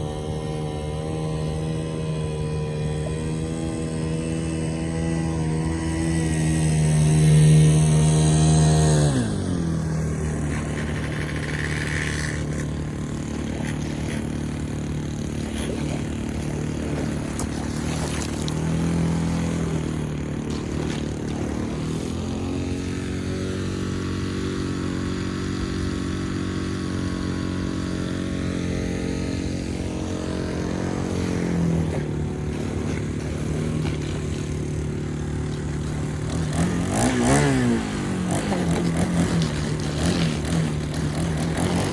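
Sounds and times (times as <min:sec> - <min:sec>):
model boat engine running: 0:00.0 - 0:41.9.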